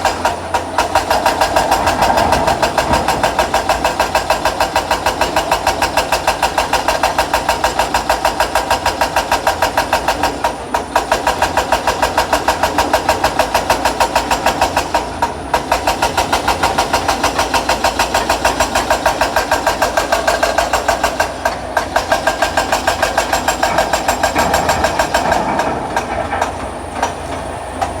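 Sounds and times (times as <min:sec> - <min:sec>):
excavator engine pulsing: 0:00.0 - 0:28.0.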